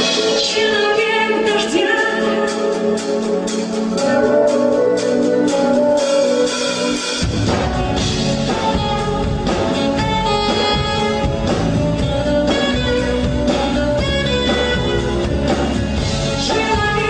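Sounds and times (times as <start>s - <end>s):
bass and drums: 0.0s - 1.8s, 2.5s - 17.0s
guitar: 0.0s - 17.0s.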